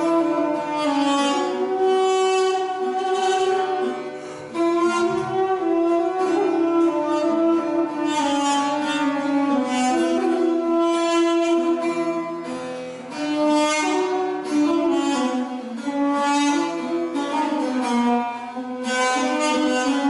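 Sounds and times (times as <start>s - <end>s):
duduk slow melody: 0.0s - 20.0s
plucked lute: 0.0s - 20.0s.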